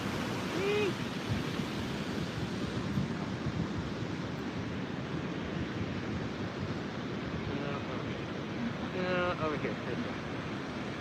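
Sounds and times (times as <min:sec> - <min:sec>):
ocean surf washing in: 0:00.0 - 0:11.0
wind noise on microphone: 0:00.0 - 0:11.0.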